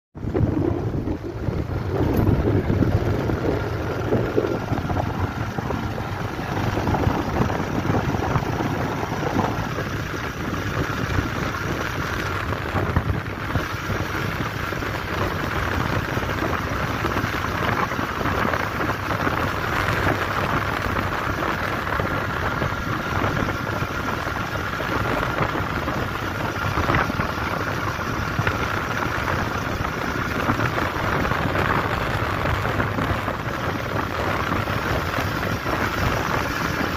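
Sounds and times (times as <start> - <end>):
wind and tyre noise: 0.2 - 36.9.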